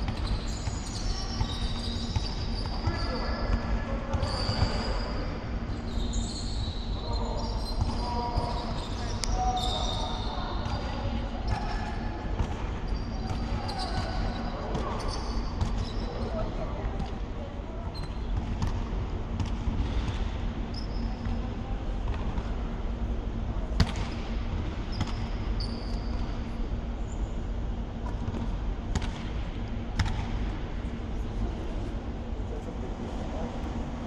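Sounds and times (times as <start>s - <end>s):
low hum of large hall: 0.0s - 34.0s.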